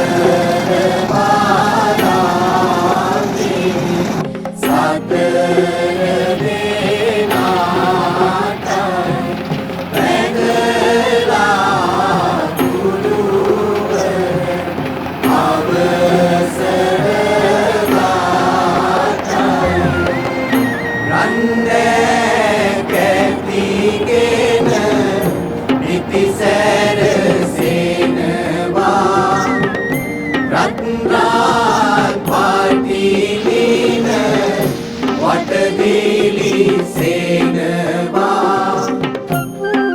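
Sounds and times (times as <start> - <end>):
chanted singing: 0.0 - 39.9
music: 0.0 - 39.9.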